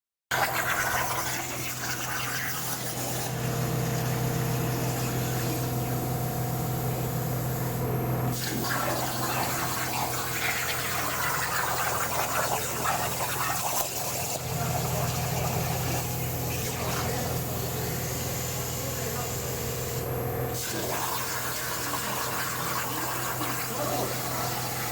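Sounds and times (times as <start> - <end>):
plasma cutter arc hissing: 0.4 - 20.0, 20.6 - 24.9
low electrical hum: 1.0 - 24.9.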